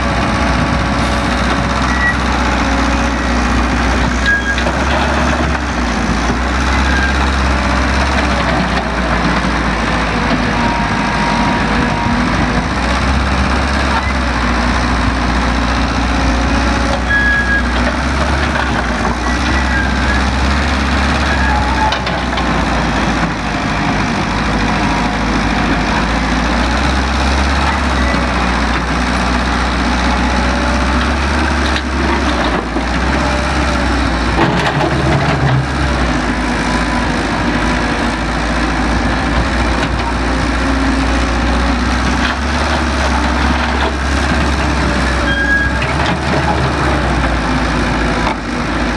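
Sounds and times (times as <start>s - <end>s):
construction machinery engine drone: 0.0s - 48.9s
rough mechanical noise: 0.0s - 48.9s.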